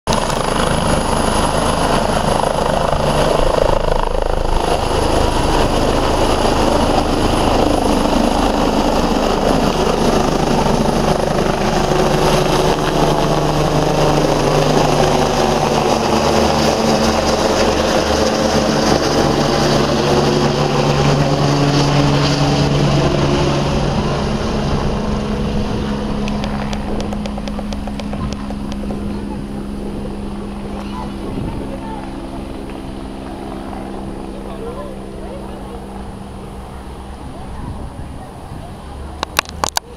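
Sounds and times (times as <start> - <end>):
helicopter rotor chop: 0.1 - 39.9
turbine whine: 0.1 - 39.9.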